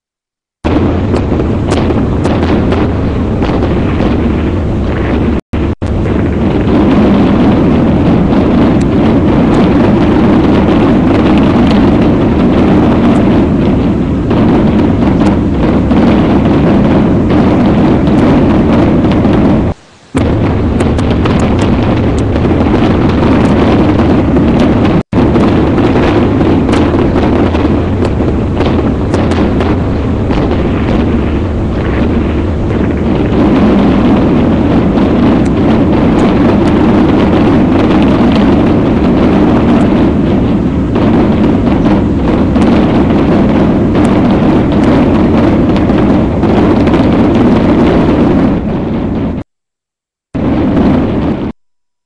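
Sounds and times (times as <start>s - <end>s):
volcanic eruption roar: 0.6s - 49.5s, 50.4s - 51.6s.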